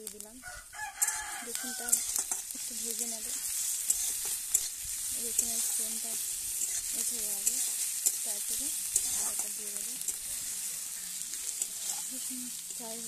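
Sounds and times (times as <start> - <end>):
onions sizzling in oil: 0.0 - 13.0
metal spatula scraping pan: 1.0 - 13.0.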